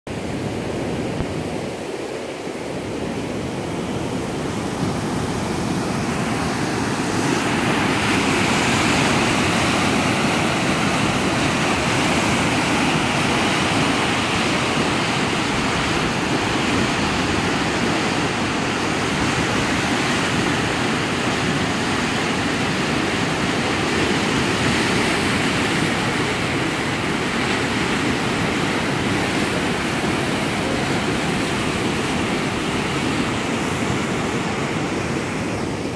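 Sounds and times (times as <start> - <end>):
river water rushing: 0.1 - 35.9.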